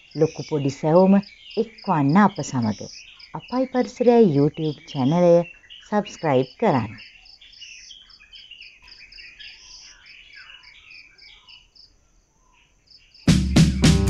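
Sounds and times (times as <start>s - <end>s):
crickets chirping: 0.0s - 13.3s
birds calling: 0.0s - 14.0s.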